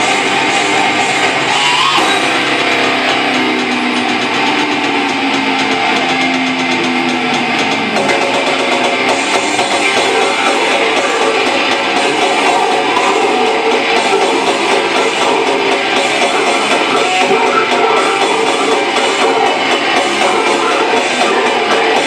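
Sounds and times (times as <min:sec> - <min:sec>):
drums: 0:00.0 - 0:22.0
electric guitar: 0:00.0 - 0:22.0.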